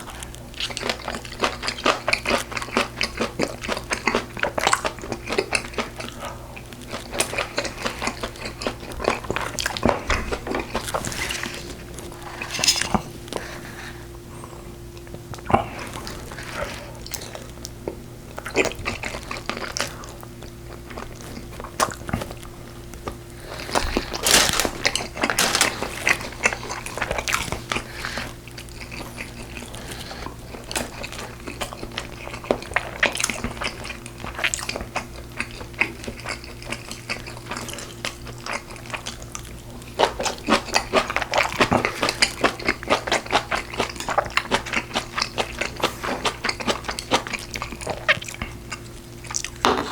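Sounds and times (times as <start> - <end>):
person chewing and crunching: 0.0 - 49.9.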